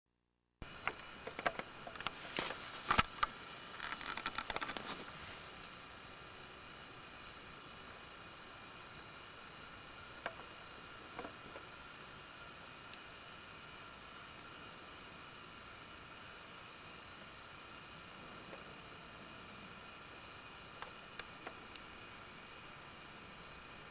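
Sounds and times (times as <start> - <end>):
tape mechanism hiss and whine: 0.6 - 23.9.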